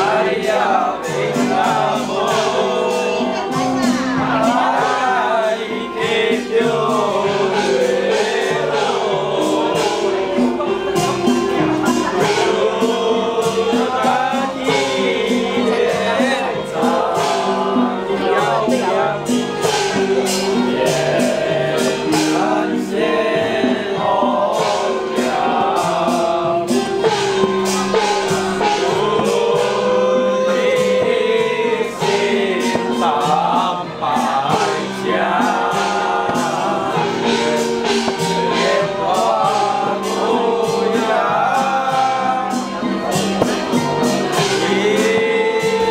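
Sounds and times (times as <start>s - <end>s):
melody with sliding notes: 0.0s - 45.9s
quick percussion strikes: 0.0s - 45.9s.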